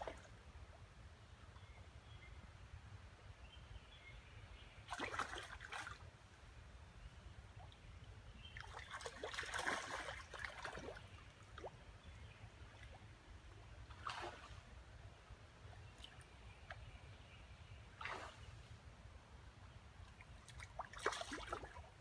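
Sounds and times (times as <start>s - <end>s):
floodwater trickling and lapping: 0.0s - 1.8s, 4.6s - 22.0s.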